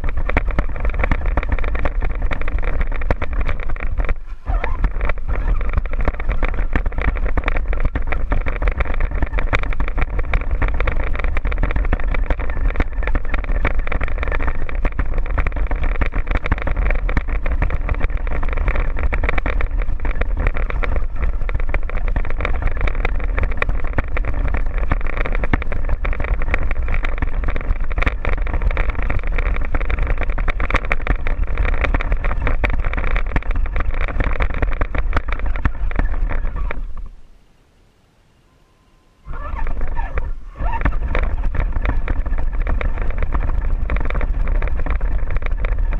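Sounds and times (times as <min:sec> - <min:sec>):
toy truck motor and gears: 0:00.0 - 0:37.1, 0:39.3 - 0:45.9
stones crunching under tyres: 0:00.0 - 0:37.2.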